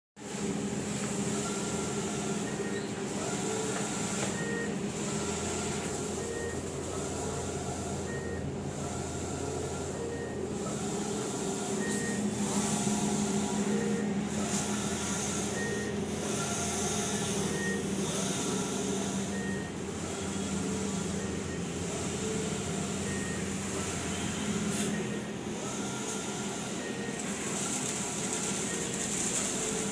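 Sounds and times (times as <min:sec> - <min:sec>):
printer fans humming: 0:00.2 - 0:29.9.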